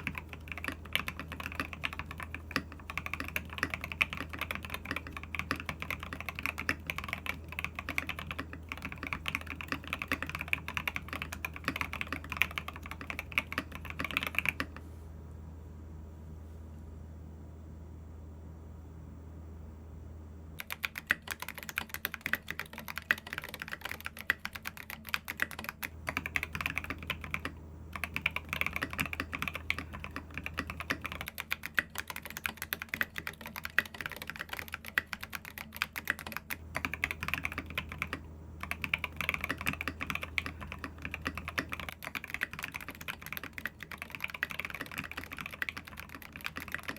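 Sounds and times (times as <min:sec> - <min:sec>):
mechanical keyboard typing: 0:00.0 - 0:14.8, 0:20.6 - 0:46.9.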